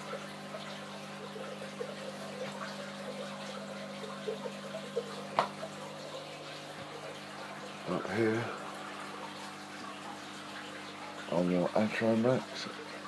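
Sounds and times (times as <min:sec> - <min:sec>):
low electrical hum: 0:00.0 - 0:13.0
water trickling and splashing: 0:00.0 - 0:13.0.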